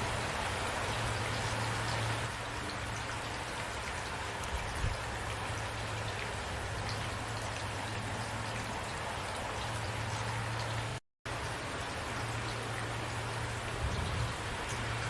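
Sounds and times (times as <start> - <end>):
raindrops ticking: 0.0 - 15.0
steady rain falling: 0.0 - 15.0.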